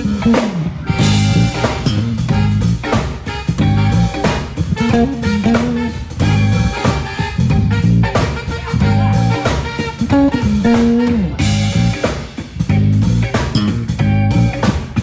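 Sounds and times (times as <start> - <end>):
band playing through speakers: 0.0 - 15.0.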